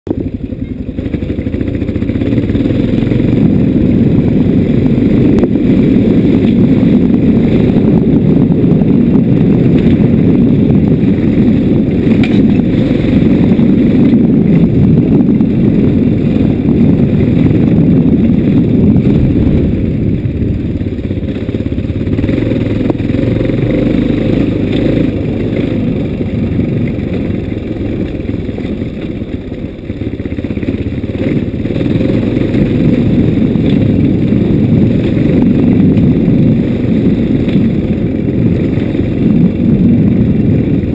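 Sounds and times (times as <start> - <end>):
vehicle rumbling over dirt track: 0.0 - 40.9.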